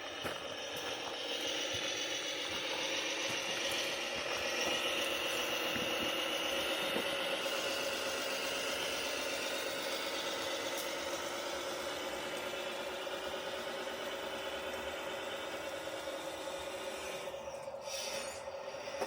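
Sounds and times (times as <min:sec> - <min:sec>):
toy truck motor whine: 0:00.0 - 0:19.0.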